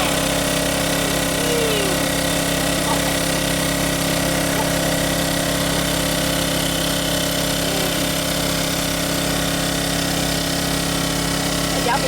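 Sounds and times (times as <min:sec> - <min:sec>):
water pump engine running: 0:00.0 - 0:12.0.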